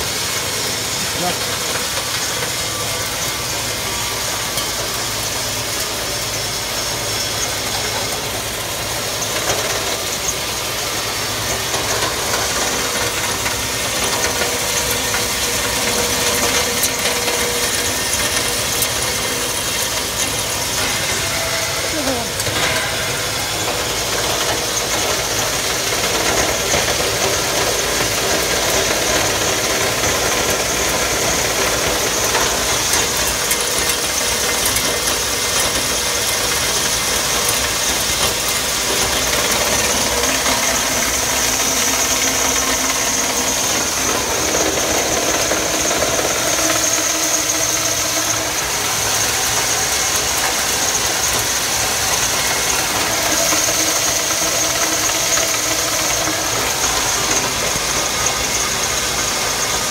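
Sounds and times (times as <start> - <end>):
juice extractor motor whining: 0.0 - 59.9.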